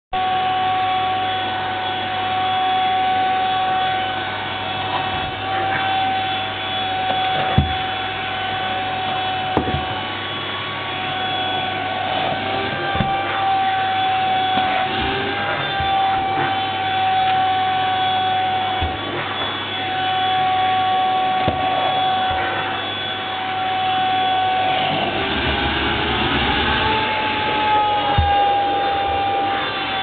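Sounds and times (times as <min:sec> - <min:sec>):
vacuum cleaner running: 0:00.2 - 0:30.0.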